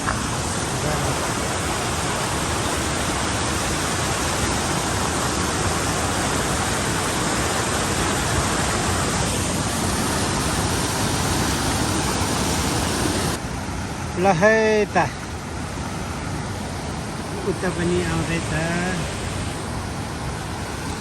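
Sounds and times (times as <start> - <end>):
fast-flowing river water rushing: 0.0 - 21.0.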